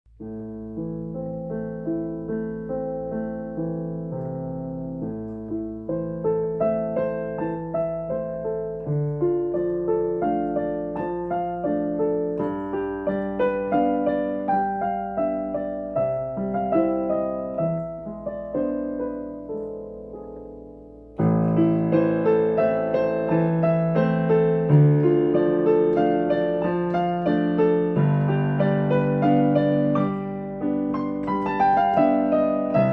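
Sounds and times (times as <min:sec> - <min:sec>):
instrumental piano music: 0:00.1 - 0:32.9.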